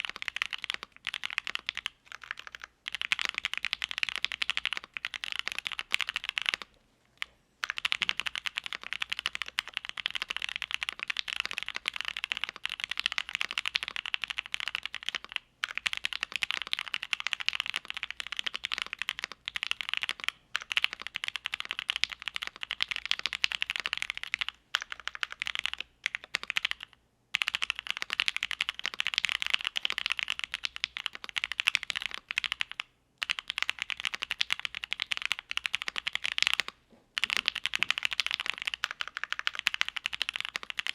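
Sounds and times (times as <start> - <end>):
typing on mechanical keyboard: 0.0 - 6.7, 7.6 - 40.9.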